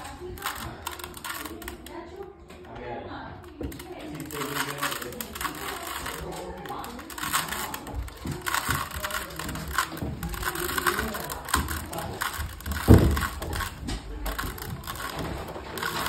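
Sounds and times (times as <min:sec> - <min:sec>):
puzzle cube clicking: 0:00.0 - 0:02.1, 0:03.4 - 0:16.0.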